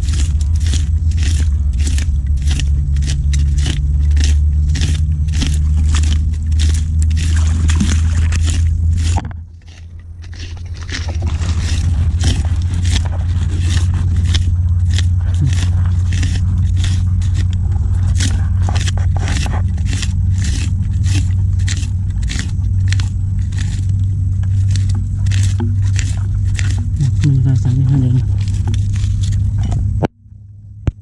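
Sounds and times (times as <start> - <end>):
metal rod crunching in mud: 0.0 - 30.1
low hum: 0.0 - 31.0.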